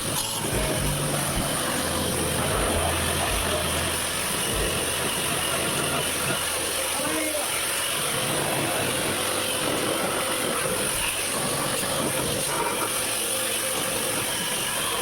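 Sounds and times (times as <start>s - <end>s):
pressure washer motor humming: 0.0s - 15.0s
water spraying onto car: 0.0s - 15.0s.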